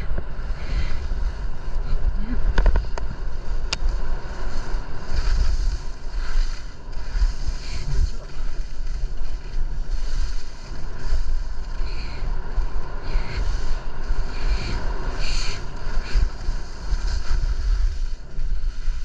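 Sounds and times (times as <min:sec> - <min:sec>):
skis sliding over snow: 0:00.0 - 0:19.0
wind buffeting microphone: 0:00.0 - 0:19.0.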